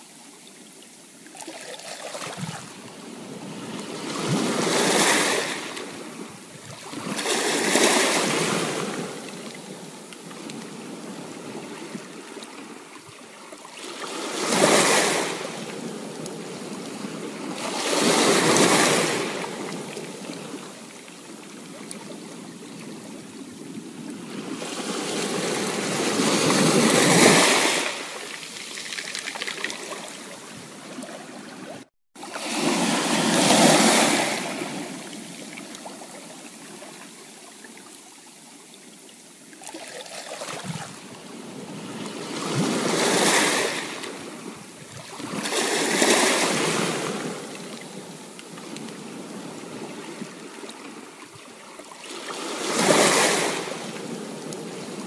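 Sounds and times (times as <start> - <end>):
ocean surf breaking on beach: 1.4 - 13.0, 13.7 - 37.6, 39.9 - 55.0.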